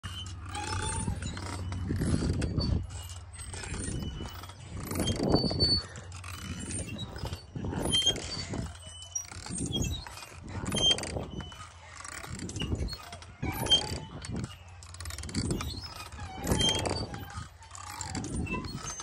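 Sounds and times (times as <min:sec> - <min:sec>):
swing creaking and squeaking: 0:00.0 - 0:19.0.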